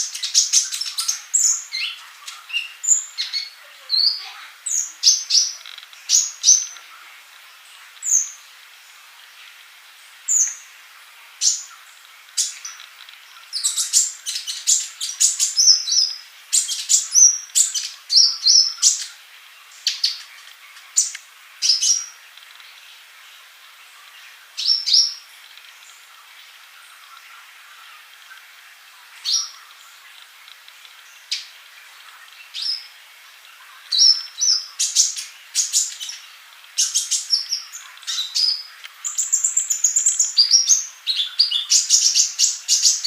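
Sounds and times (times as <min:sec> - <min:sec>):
sunbird high thin chirps and trills: 0:00.0 - 0:43.0.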